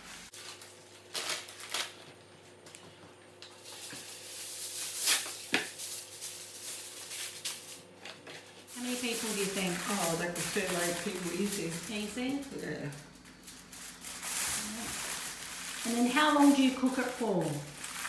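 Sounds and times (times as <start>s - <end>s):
baking paper rustling: 0.0s - 18.0s.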